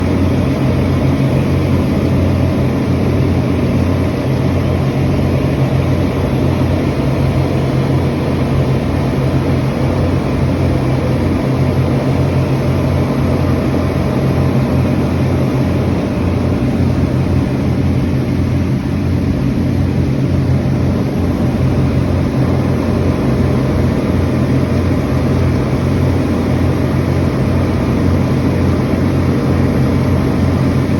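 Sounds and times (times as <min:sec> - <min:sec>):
speedboat engine droning: 0:00.0 - 0:30.9.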